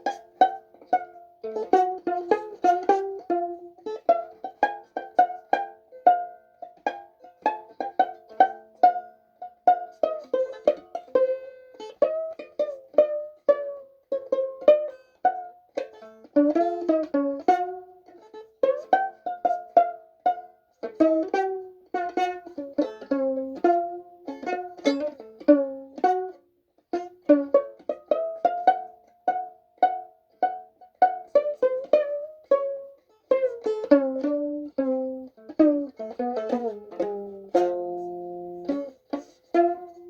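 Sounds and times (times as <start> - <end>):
violin plucked pizzicato: 0.0 - 40.0.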